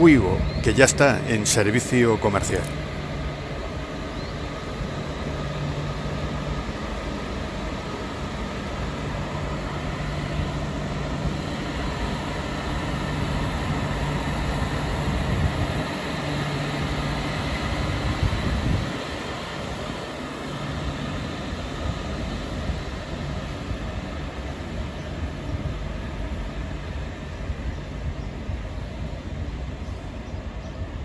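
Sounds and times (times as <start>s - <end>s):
electric train humming: 0.0s - 31.0s.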